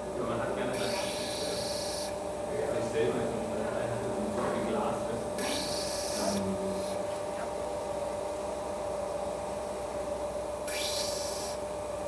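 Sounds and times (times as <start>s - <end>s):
lap motor humming: 0.0s - 12.0s.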